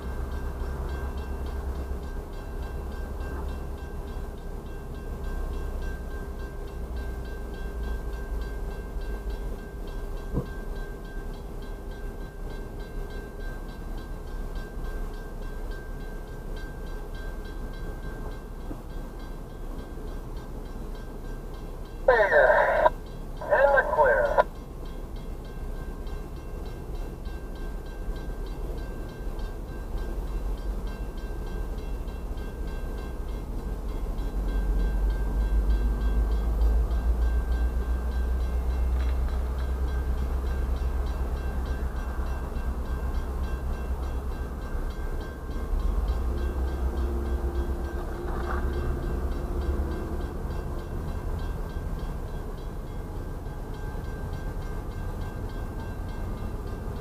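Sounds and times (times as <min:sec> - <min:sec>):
crossing bell ringing faintly: 0:00.0 - 0:57.0
diesel freight train rumbling: 0:00.0 - 0:57.0.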